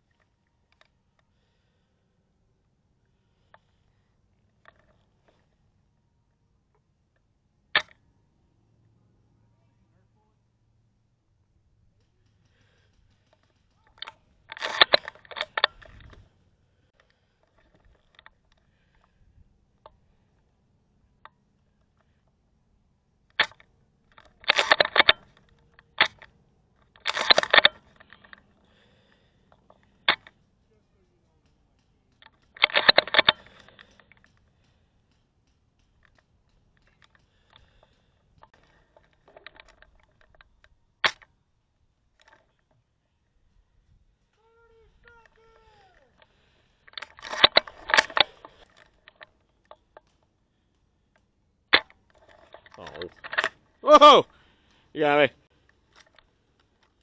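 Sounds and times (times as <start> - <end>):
rifle mechanical clicks: 4.5 - 5.5, 6.3 - 8.1, 11.8 - 22.4, 23.2 - 30.6, 31.3 - 43.5, 44.2 - 57.0.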